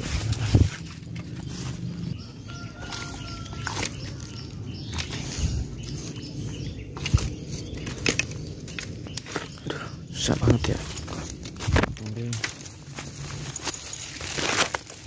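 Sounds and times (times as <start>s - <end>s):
leaves and twigs rustling: 0.0s - 15.0s.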